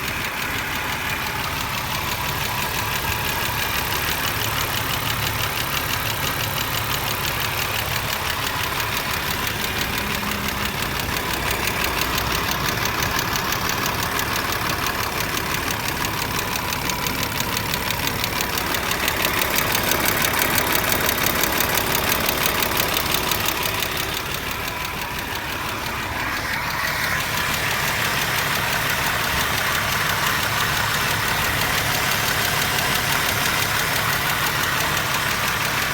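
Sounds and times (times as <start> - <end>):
car engine running: 0.0 - 35.9
fast engine knock: 0.0 - 35.9.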